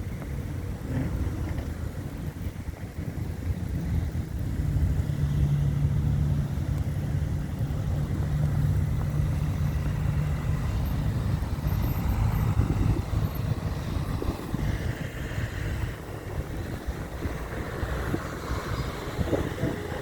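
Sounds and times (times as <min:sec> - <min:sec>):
storm wind rumbling: 0:00.0 - 0:20.0
vehicle engine humming: 0:00.0 - 0:20.0.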